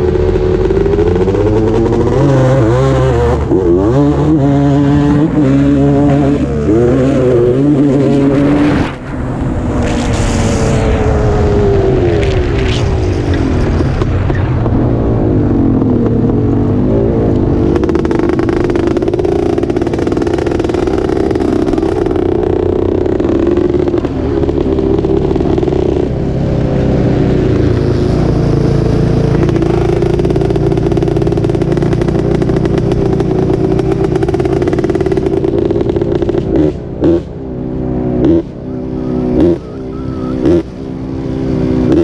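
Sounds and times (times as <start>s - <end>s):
vehicle engine revving high: 0.0s - 14.1s, 14.9s - 42.0s.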